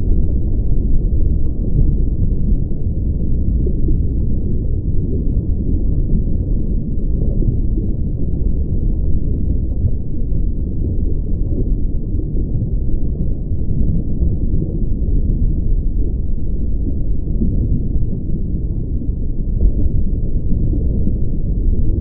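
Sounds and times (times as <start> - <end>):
deep rumbling drone: 0.0 - 22.0.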